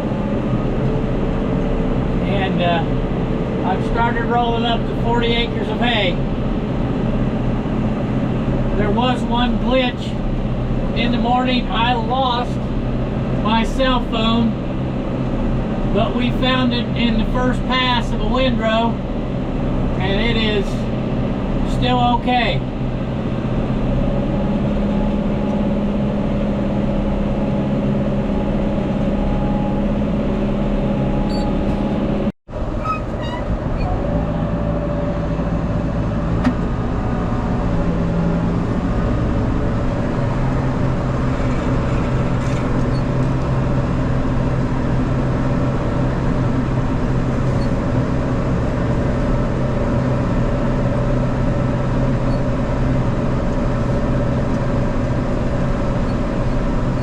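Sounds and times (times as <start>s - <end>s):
tractor engine under load: 0.0s - 57.0s.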